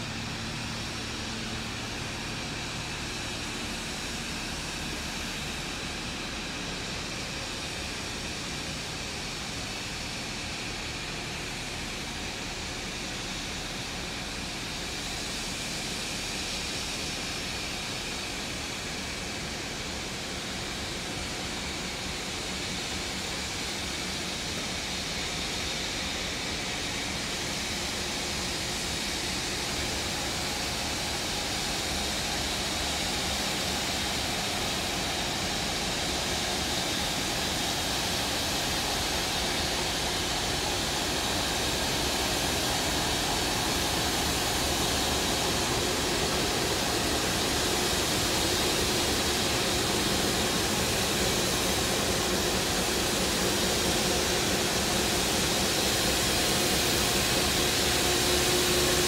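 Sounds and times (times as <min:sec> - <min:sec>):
diesel train rumble and hiss: 0:00.0 - 0:59.0.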